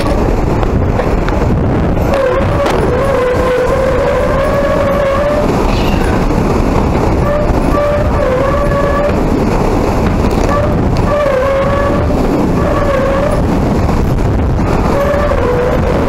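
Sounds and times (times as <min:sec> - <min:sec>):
hurricane winds rushing: 0:00.0 - 0:16.0
wind whistling howl: 0:00.0 - 0:16.0.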